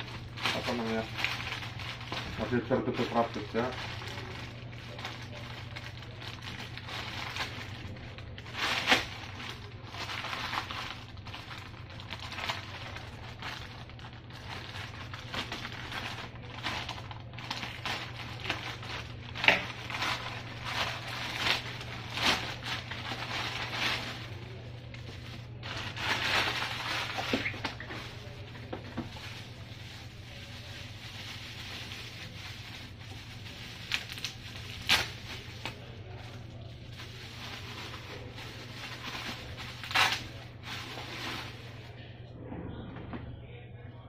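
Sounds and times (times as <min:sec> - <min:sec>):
plastic mailer bag crinkling: 0:00.0 - 0:42.0
steady low hum: 0:00.0 - 0:44.0.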